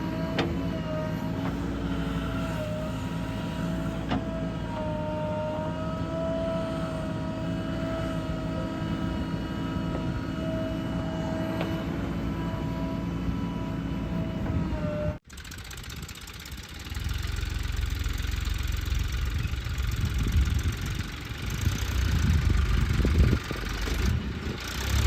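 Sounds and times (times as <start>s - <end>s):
diesel engine rumble: 0.0s - 25.0s
high wavering machine whine: 0.0s - 25.0s.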